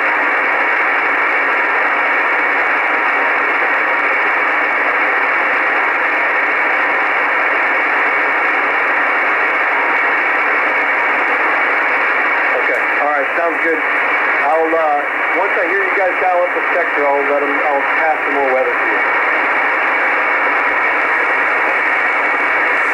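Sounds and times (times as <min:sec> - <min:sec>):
shortwave radio static hissing: 0:00.0 - 0:22.9.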